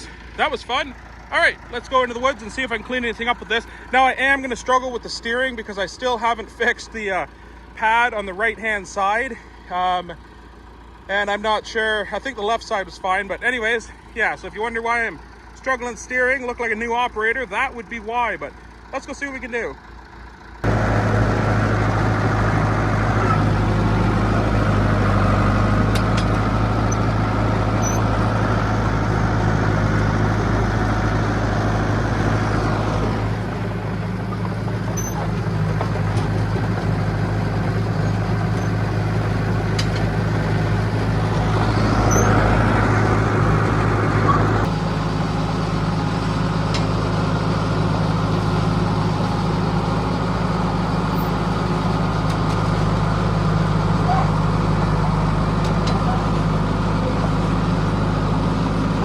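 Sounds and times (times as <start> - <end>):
bulldozer engine running: 0.0 - 59.0.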